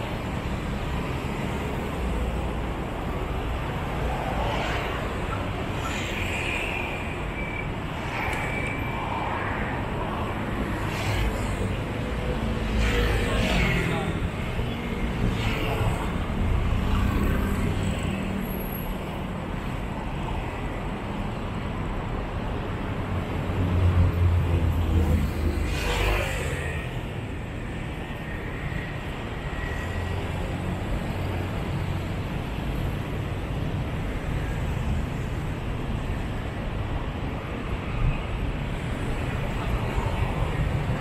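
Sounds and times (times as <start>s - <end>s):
road traffic rumble: 0.0s - 41.0s
vehicles passing close by: 0.0s - 41.0s.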